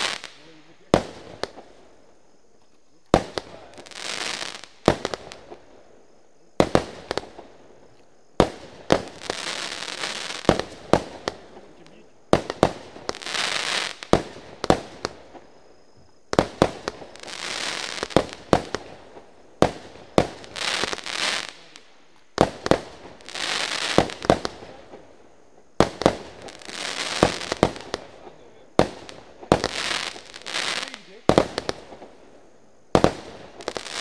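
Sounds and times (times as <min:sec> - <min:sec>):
fireworks launching and bursting: 0:00.0 - 0:02.3, 0:02.9 - 0:34.0
fireworks hiss and crackle: 0:00.0 - 0:34.0.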